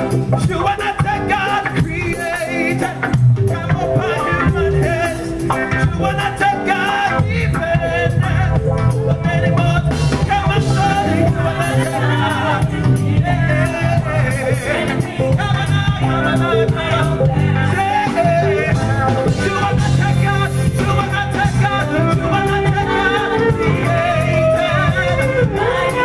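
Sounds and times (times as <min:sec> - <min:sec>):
band playing: 0:00.0 - 0:26.0
people singing: 0:00.0 - 0:26.0.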